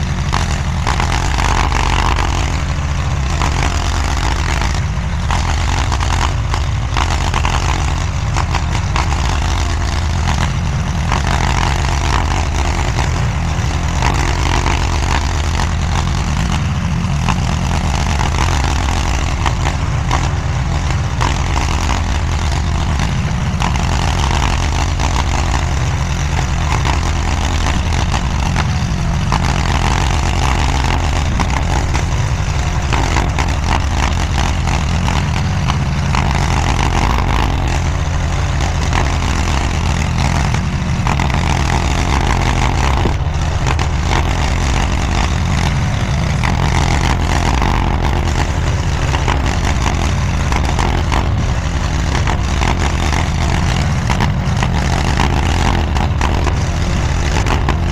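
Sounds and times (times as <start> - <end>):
mini skid steer engine running: 0.0 - 57.9.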